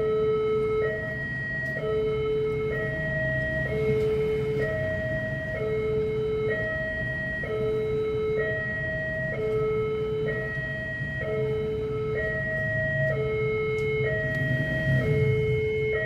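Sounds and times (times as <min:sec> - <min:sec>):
road traffic engines rumbling: 0:00.0 - 0:16.0
two-tone crossing alarm: 0:00.0 - 0:16.0.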